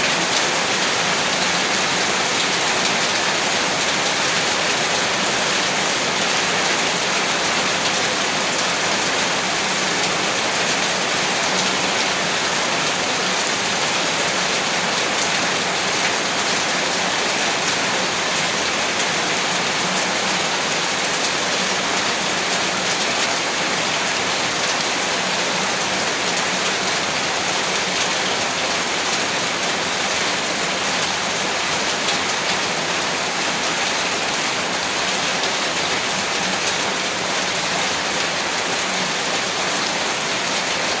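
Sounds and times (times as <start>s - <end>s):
heavy rain: 0.0s - 41.0s.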